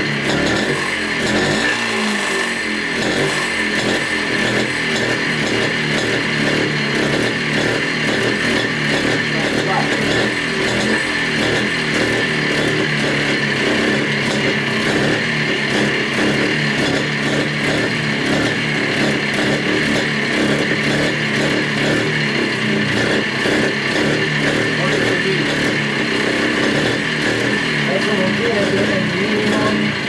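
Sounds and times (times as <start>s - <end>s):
two-stroke engine running: 0.0s - 30.0s.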